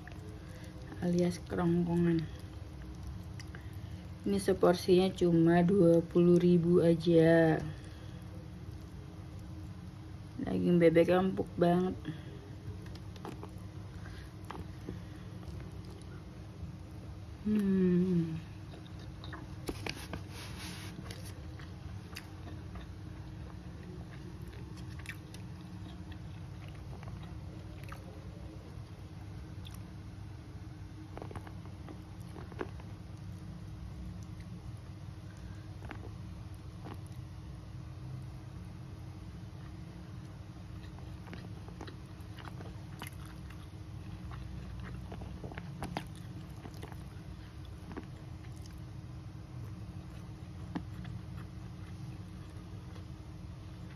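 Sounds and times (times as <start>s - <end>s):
soft chewing: 0.0s - 53.9s
steady low hum: 0.0s - 53.9s.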